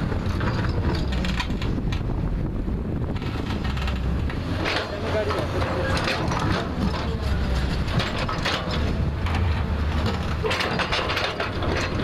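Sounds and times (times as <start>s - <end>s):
bucket clanking and scraping: 0.0s - 2.0s, 3.2s - 12.0s
diesel engine running: 0.0s - 12.0s.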